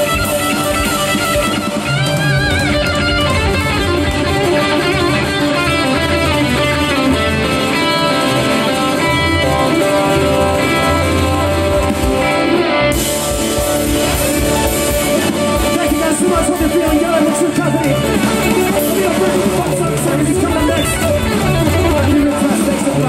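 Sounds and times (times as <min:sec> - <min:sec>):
bass guitar: 0:00.0 - 0:23.0
drums: 0:00.0 - 0:23.0
electric guitar lead with bent notes: 0:00.0 - 0:23.0.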